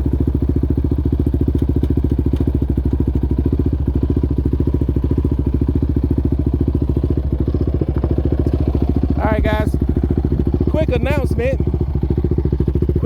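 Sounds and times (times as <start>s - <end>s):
single-cylinder engine thumping: 0.0s - 13.0s.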